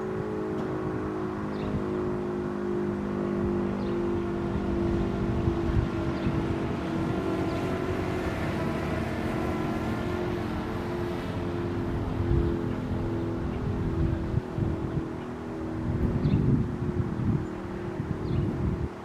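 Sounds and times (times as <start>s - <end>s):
mechanical siren whine: 0.0s - 19.0s.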